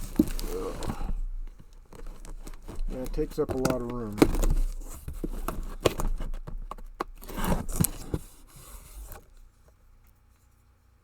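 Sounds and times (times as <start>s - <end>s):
cardboard box being handled: 0.0s - 9.7s.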